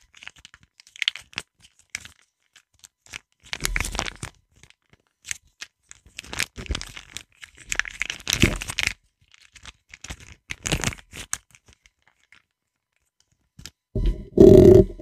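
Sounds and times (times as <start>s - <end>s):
wrapper crinkling and tearing: 0.0s - 13.8s.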